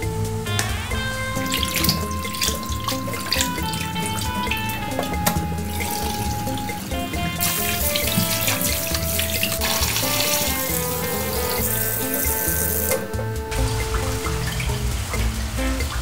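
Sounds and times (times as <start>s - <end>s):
hands rinsing in water: 0.6s - 16.0s.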